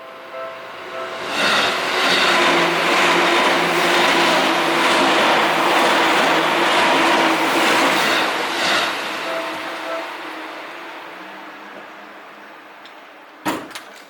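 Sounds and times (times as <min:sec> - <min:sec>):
train wheels rushing on rails: 0:00.7 - 0:13.0.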